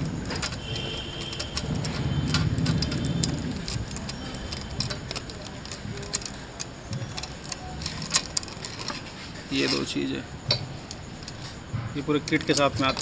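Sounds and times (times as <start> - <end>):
small metal parts clicking: 0.0 - 13.0.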